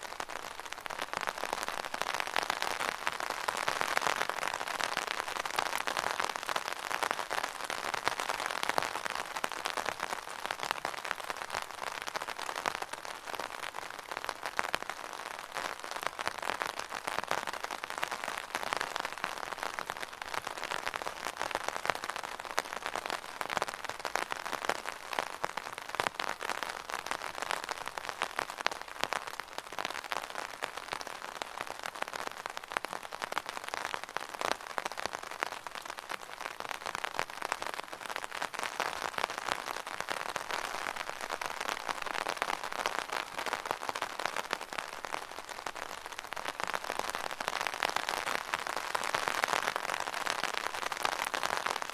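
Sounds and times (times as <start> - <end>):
rain pattering on umbrella: 0.0 - 51.9.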